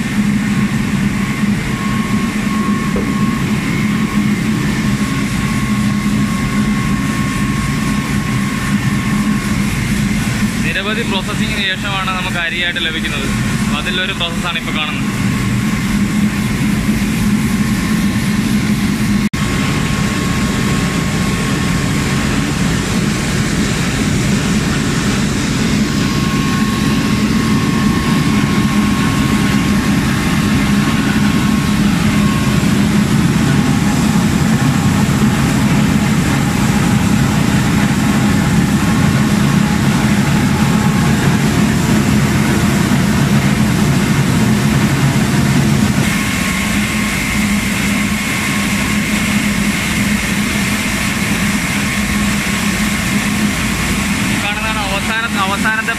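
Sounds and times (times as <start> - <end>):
high machine whine: 0.0 - 55.9
mill machinery droning: 0.0 - 55.9.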